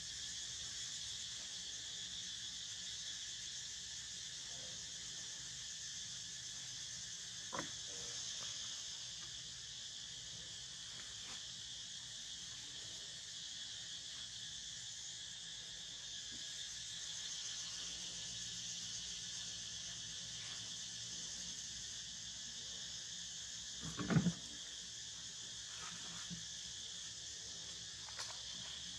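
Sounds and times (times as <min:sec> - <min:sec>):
high-pitched insect chorus: 0:00.0 - 0:28.9.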